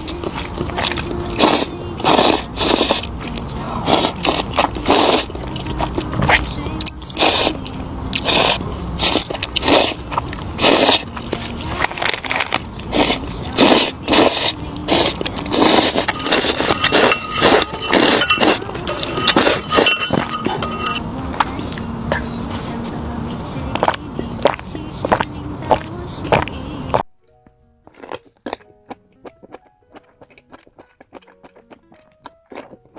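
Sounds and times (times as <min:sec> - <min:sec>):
chewing crisp food: 0:00.0 - 0:27.1, 0:27.8 - 0:32.9.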